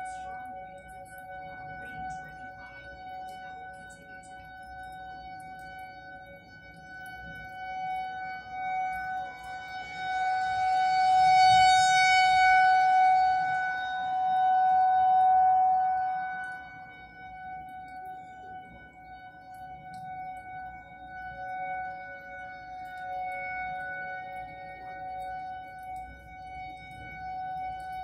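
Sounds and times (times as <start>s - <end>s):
warning siren steady tone: 0.0s - 28.0s.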